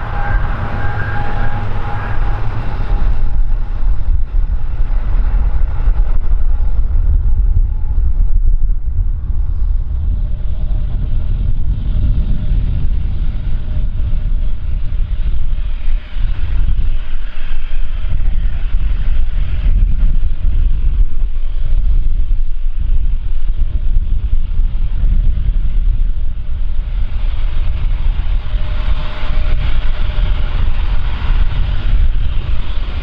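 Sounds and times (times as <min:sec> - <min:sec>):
engine whine: 0:00.0 - 0:33.0
jet engines rumbling: 0:00.0 - 0:33.0.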